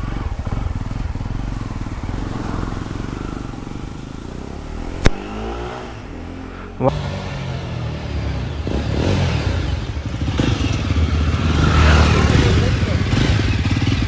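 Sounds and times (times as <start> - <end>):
motorcycle engine running: 0.0 - 5.4, 6.9 - 14.0.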